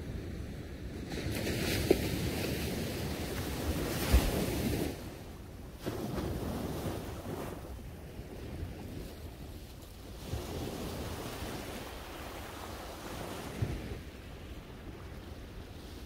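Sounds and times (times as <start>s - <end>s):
wind on microphone: 0.0s - 16.0s
small waves breaking on shore: 0.1s - 16.0s.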